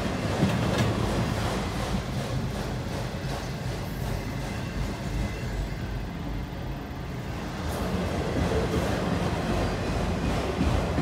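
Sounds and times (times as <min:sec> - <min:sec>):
freight train rolling past: 0:00.0 - 0:11.0.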